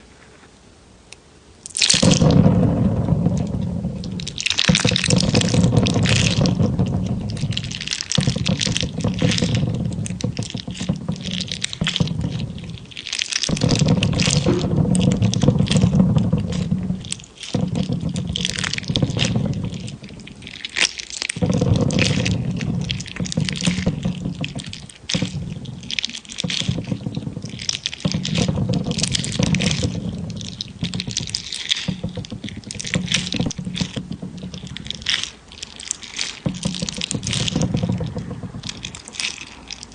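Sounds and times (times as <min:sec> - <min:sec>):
jelly squishing and popping: 0:01.1 - 0:39.9.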